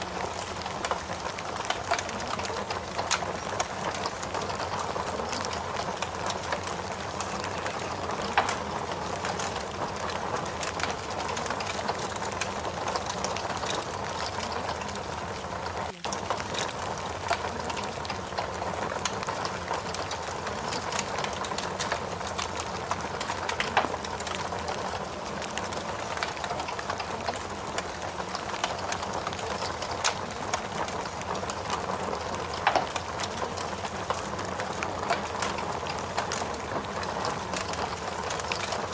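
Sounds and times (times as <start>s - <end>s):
fire crackling and popping: 0.0s - 38.9s
rain hissing: 0.0s - 38.9s.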